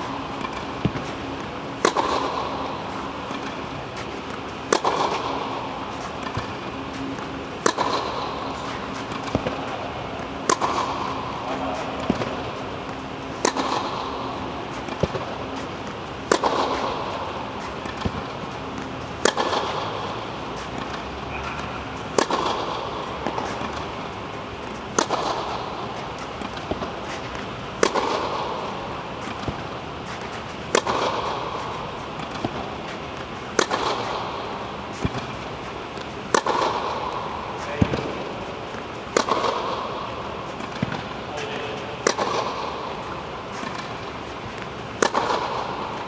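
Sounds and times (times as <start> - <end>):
tennis racket hitting ball: 0.0 - 46.0.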